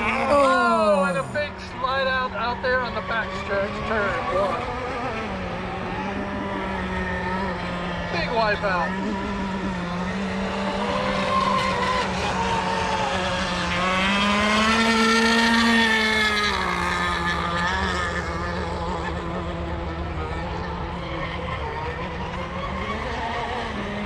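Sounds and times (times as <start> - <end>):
model boat engines buzzing: 0.0 - 24.0.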